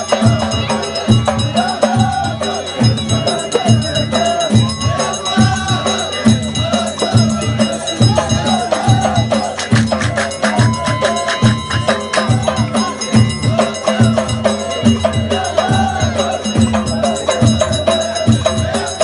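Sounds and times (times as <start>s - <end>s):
ringing percussion: 0.0s - 19.0s
steady drum beat: 0.0s - 19.0s
voices singing: 0.0s - 19.0s.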